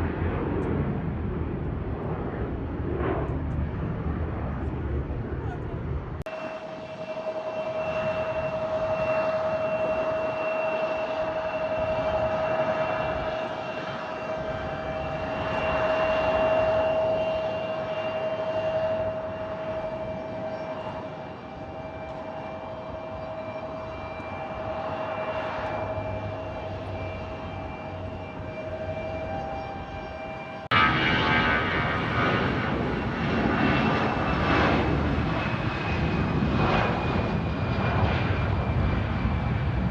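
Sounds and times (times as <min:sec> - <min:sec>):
airliner engines whining: 0:00.0 - 0:39.9.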